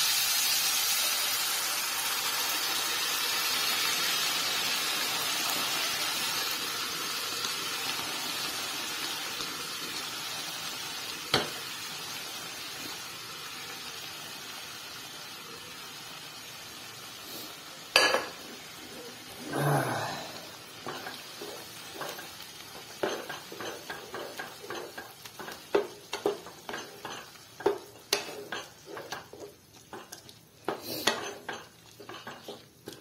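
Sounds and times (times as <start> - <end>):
oil sizzling in a pan: 0.0 - 33.0.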